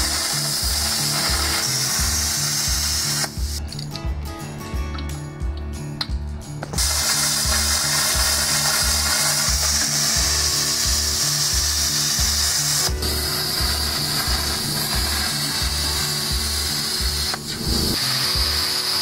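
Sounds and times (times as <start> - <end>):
plasma cutter hissing: 0.0 - 3.6, 6.7 - 19.0
music with steady beat: 0.0 - 19.0.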